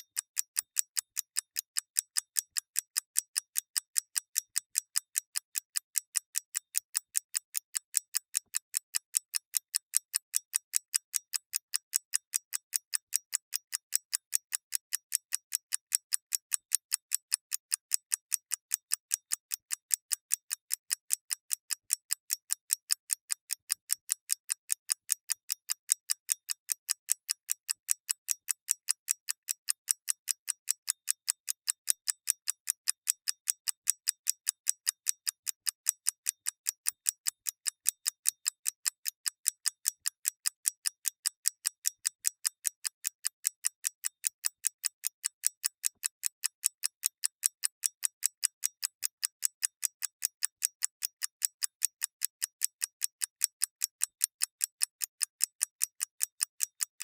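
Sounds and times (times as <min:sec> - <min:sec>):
mechanical clock ticking: 0:00.0 - 0:57.0.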